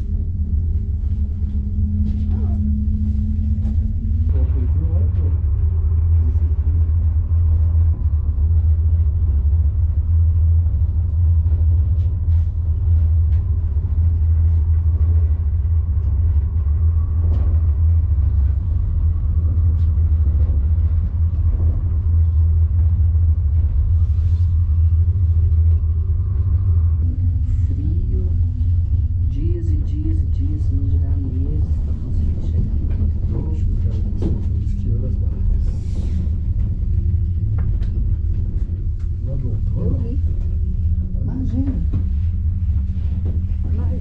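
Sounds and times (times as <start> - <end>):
cable car cabin rumble: 0.0 - 44.0
faint steady hum: 0.0 - 44.0.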